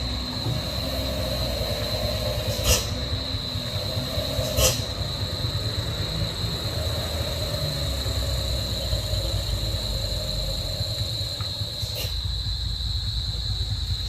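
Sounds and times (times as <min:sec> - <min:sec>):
heavy vehicle engine rumble: 0:00.0 - 0:14.0.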